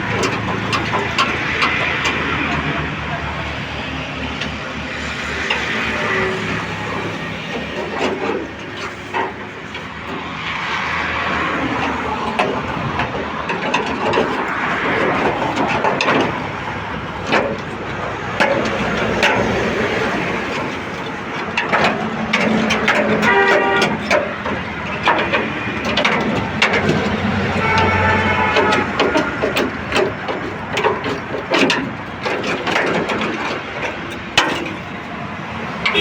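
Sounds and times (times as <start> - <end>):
sharp metal knocks and clanks: 0.0 - 36.0.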